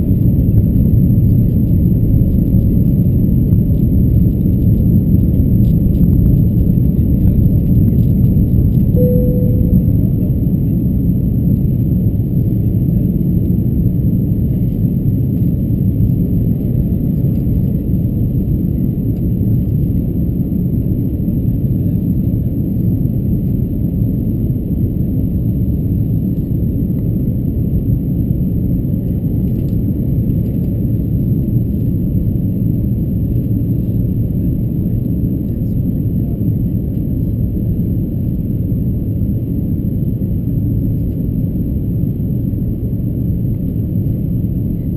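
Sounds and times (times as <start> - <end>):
airplane cabin engine rumble: 0.0 - 44.9.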